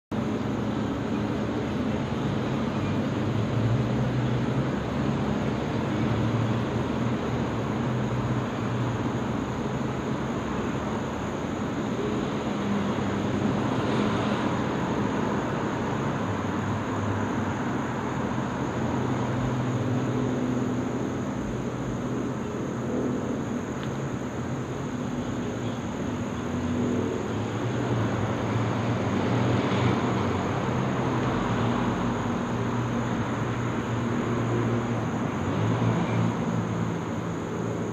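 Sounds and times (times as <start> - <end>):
distant propeller plane drone: 0.1 - 37.9.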